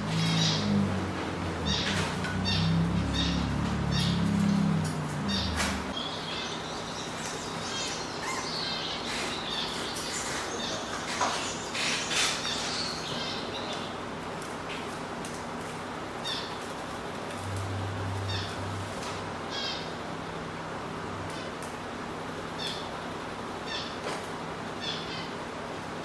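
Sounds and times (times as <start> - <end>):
cage birds chirping: 0.0 - 26.0.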